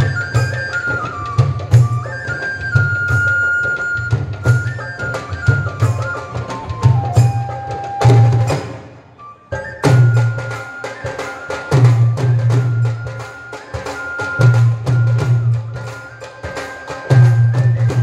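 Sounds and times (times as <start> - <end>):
clicking hand percussion: 0.0 - 8.9, 9.5 - 18.0
flute melody: 0.0 - 18.0
frame drums: 0.0 - 18.0.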